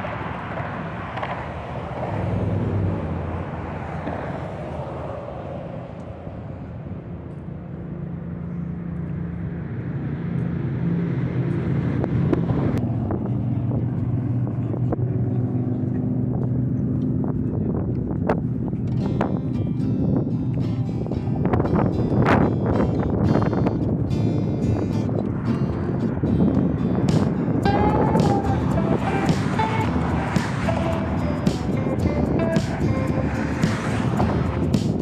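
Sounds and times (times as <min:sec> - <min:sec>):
vehicle passing: 0:00.0 - 0:17.8, 0:23.6 - 0:35.0
engine running with low hum: 0:05.7 - 0:35.0.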